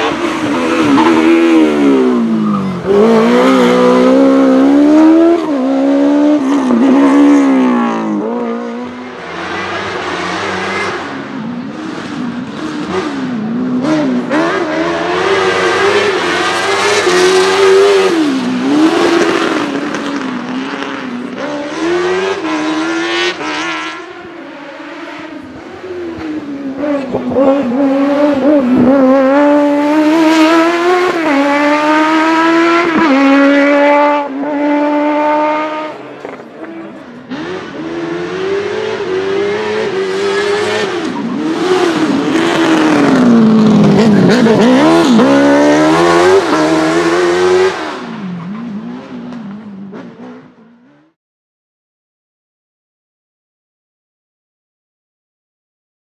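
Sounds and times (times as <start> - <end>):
race car engine revving: 0.0 - 51.2.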